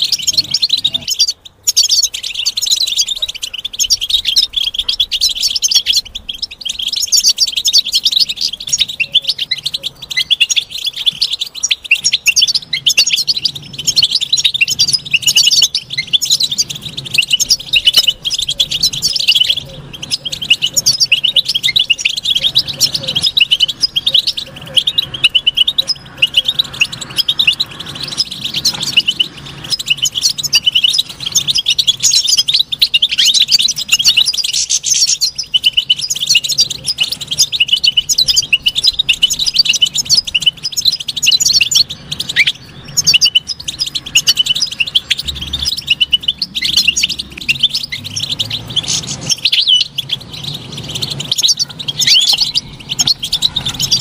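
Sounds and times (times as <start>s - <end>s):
bird twittering and trilling: 0.0s - 54.0s.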